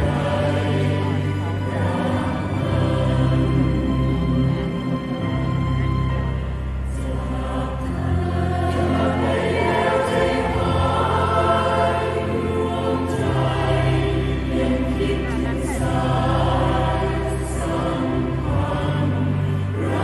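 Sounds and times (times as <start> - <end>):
mixed choir singing chords: 0.0 - 20.0.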